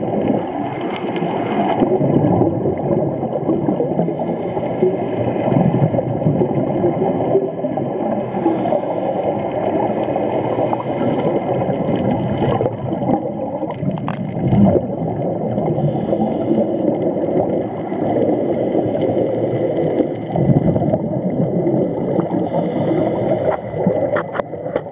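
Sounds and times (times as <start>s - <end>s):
muffled underwater rush: 0.0s - 24.9s
regulator bubbles gurgling: 0.0s - 24.9s.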